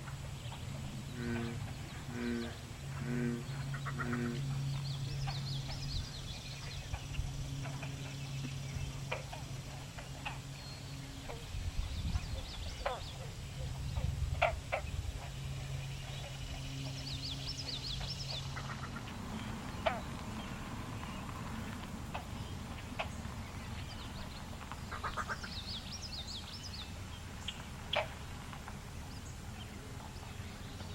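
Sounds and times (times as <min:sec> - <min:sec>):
low steady drone: 0:00.0 - 0:30.9.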